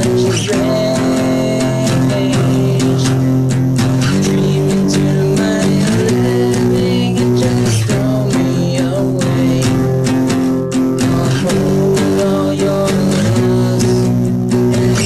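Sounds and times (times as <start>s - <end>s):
rock song with guitars and bass: 0.0s - 15.0s.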